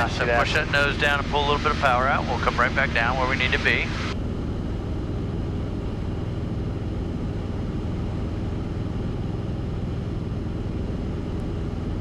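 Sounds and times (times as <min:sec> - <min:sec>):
small plane engine droning: 0:00.0 - 0:12.0.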